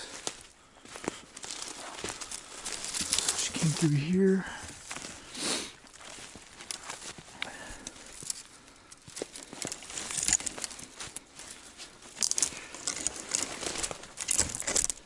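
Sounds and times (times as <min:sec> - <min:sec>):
footsteps crunching in snow: 0:00.0 - 0:14.8
twigs scraping against clothing: 0:00.0 - 0:15.0.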